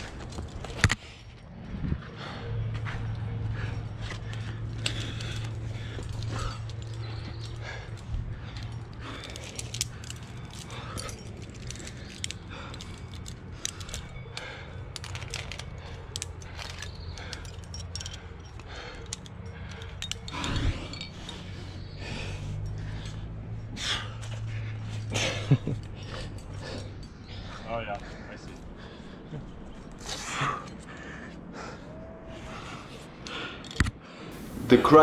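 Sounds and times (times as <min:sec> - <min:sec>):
climbing gear clinking: 0:00.0 - 0:34.0.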